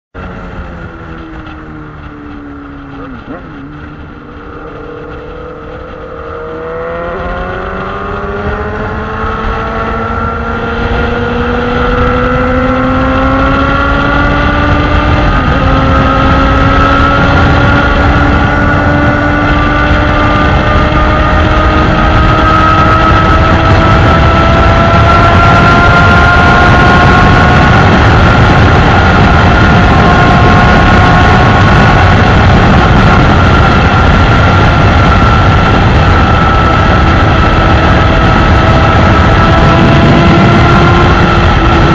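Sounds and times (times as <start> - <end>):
motorcycle engine pulling hard: 0.2 - 41.9
wind rushing over microphone: 0.2 - 41.9.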